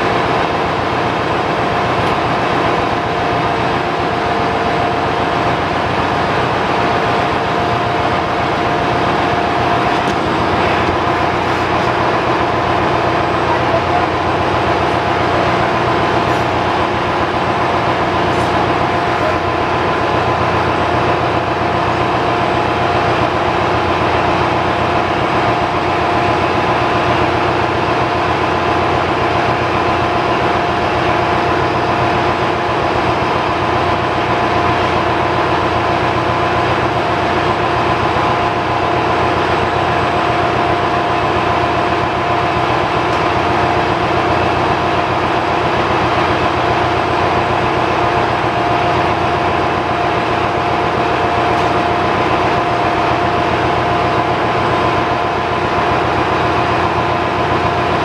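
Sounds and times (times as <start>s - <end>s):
engine room machinery drone: 0.0s - 58.0s
steady machine whine: 0.0s - 58.0s.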